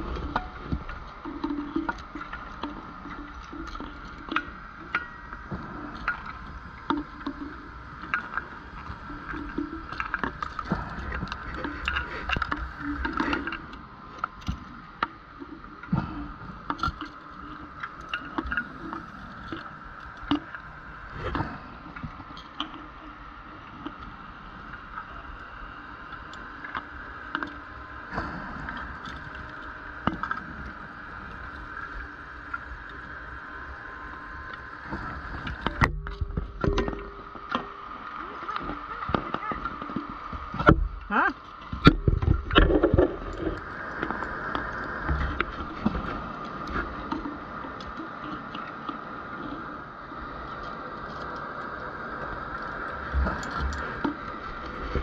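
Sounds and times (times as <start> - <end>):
steady underwater hum: 0.0 - 55.0.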